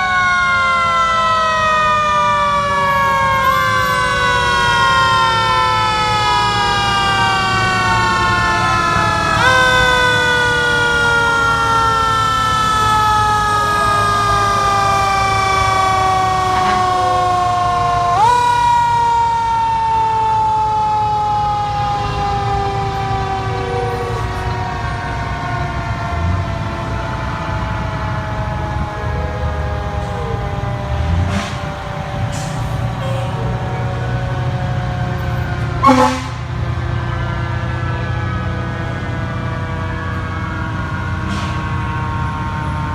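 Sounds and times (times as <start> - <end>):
mechanical siren wailing: 0.0 - 42.9.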